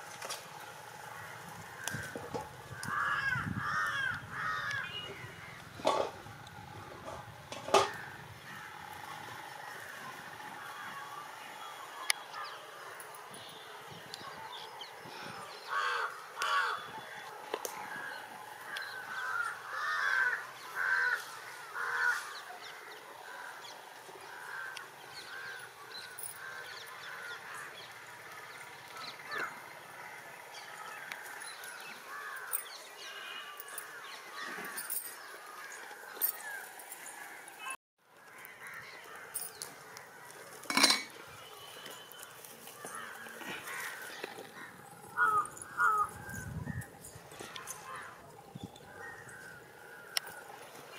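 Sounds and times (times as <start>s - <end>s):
birds calling: 0.6s - 6.2s, 10.7s - 50.9s.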